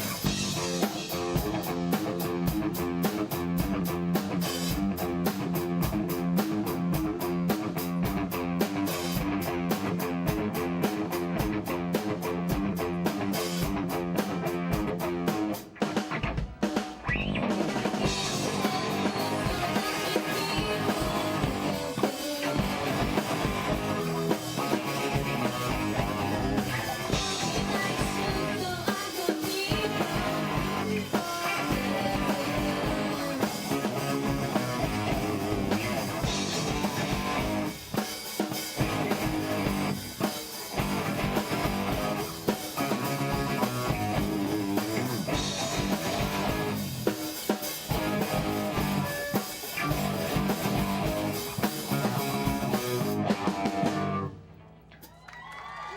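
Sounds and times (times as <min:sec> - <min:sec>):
bass guitar: 0:00.0 - 0:54.9
electric guitar: 0:00.0 - 0:55.1
drum kit: 0:00.0 - 0:55.2.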